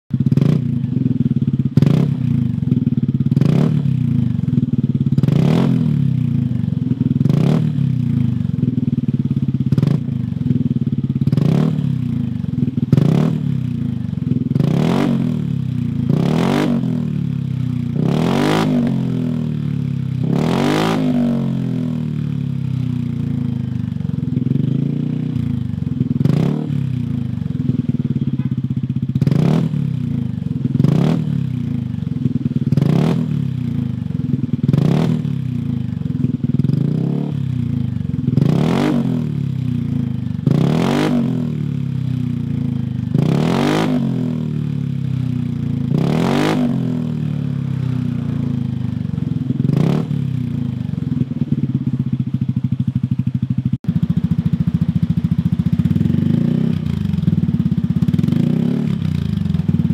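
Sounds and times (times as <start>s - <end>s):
scooter engine idling: 0.1s - 20.5s, 21.4s - 40.8s, 41.4s - 43.4s, 44.0s - 46.0s, 46.8s - 59.9s.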